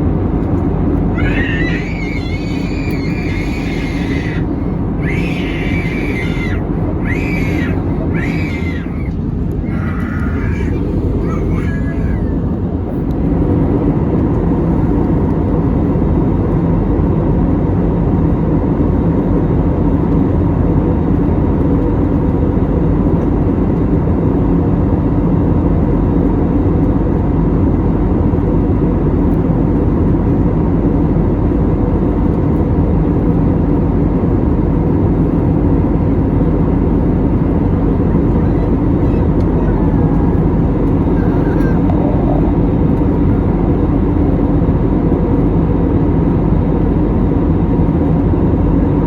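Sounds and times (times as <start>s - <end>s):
jet airliner cabin drone: 0.0s - 49.0s.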